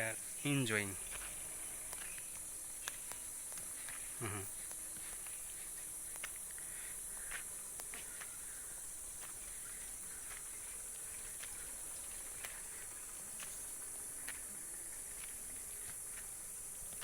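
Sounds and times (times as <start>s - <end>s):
footsteps crunching on dry ground: 0.0s - 17.0s
high-pitched insect drone: 0.0s - 17.0s.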